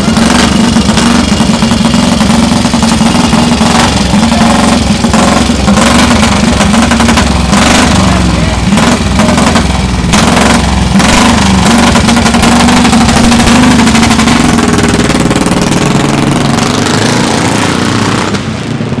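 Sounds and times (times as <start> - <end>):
single-cylinder motorcycle engine running: 0.0 - 19.0.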